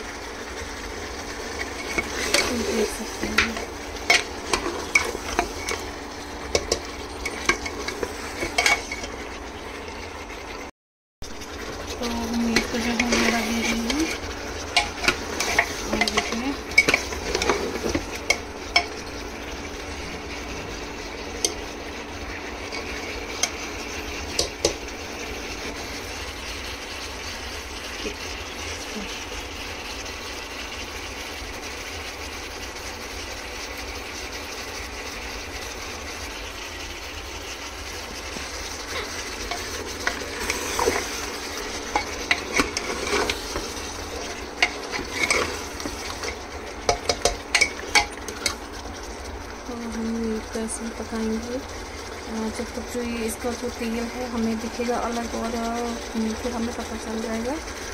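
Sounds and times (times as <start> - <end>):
meat sizzling in oil: 0.0 - 57.9.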